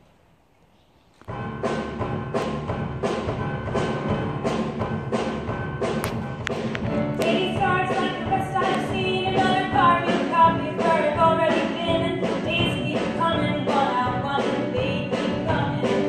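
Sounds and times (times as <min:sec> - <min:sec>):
drum kit beat: 0:01.3 - 0:16.0
live band playing: 0:01.3 - 0:16.0.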